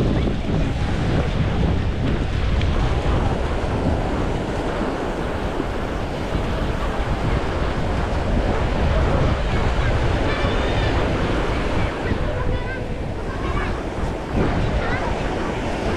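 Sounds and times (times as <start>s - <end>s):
waves breaking on a beach: 0.0s - 15.9s
wind buffeting microphone: 0.0s - 15.9s.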